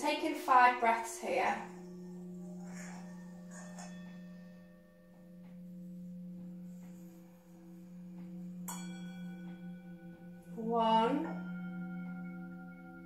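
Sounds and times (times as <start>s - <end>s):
low drone ambient music: 0.0s - 13.0s.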